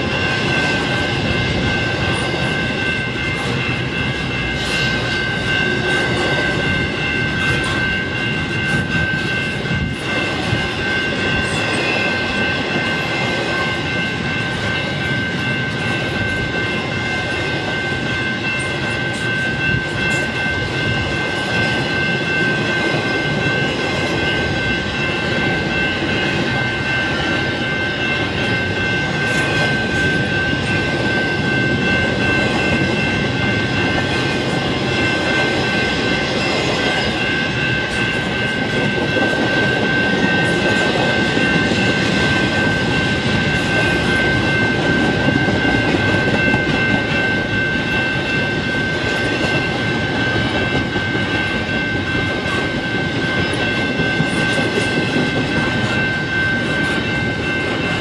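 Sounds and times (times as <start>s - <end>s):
crossing bell ringing: 0.0s - 58.0s
train wheels rumbling on rail: 0.0s - 58.0s.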